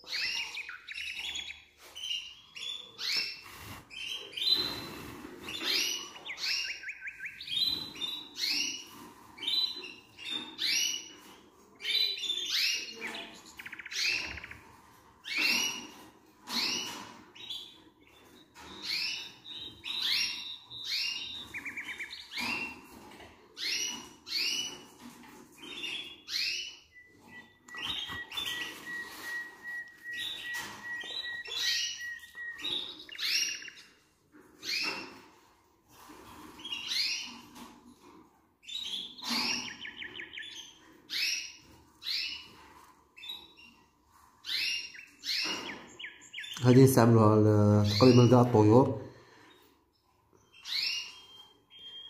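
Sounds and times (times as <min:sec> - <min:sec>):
canaries chirping and trilling: 0:00.0 - 0:52.0.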